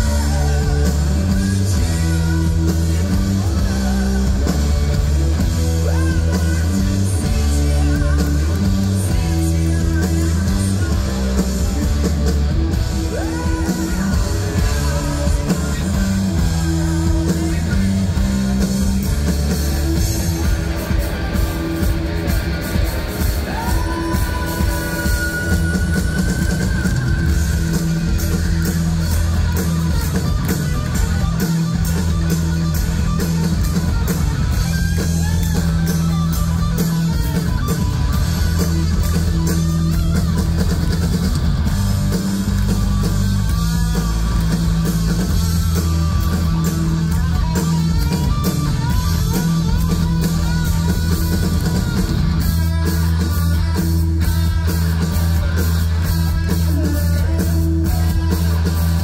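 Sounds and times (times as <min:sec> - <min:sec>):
bass guitar: 0:00.0 - 0:59.0
distorted electric guitar: 0:00.0 - 0:59.0
drum kit: 0:00.0 - 0:59.0.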